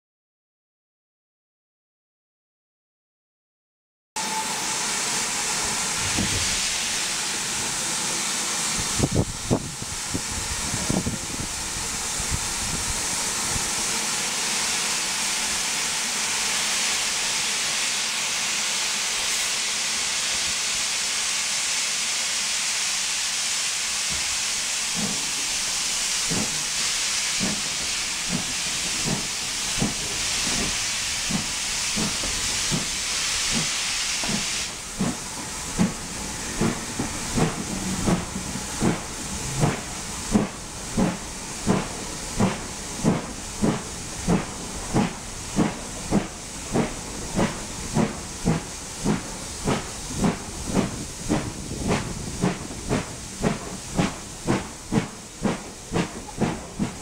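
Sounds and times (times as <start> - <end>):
steam train rushing hiss: 4.2 - 57.0.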